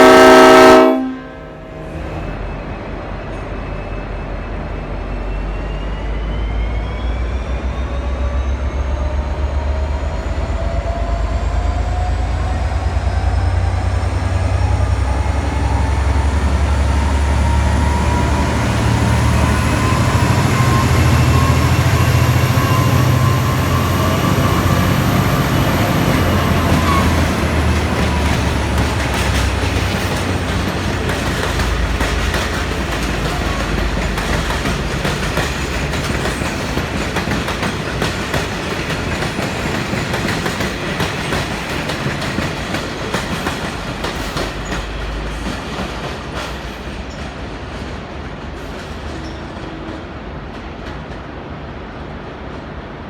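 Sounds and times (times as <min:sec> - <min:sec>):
train whine climbing in pitch: 0:00.0 - 0:47.1.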